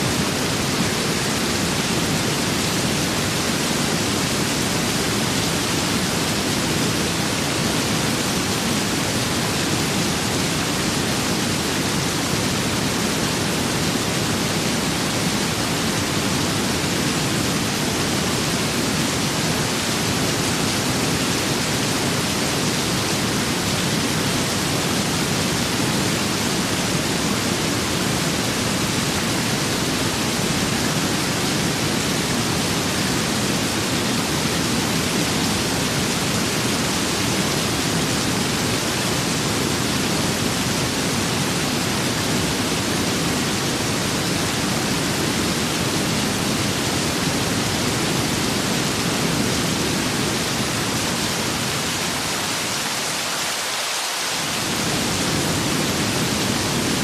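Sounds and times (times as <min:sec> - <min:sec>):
rain: 0:00.0 - 0:57.0
wind: 0:00.0 - 0:57.0.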